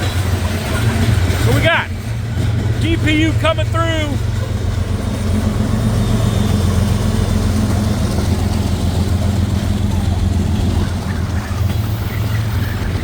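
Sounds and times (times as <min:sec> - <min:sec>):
diesel locomotive engine rumbling: 0:00.0 - 0:13.0
wind buffeting microphone: 0:00.0 - 0:13.0.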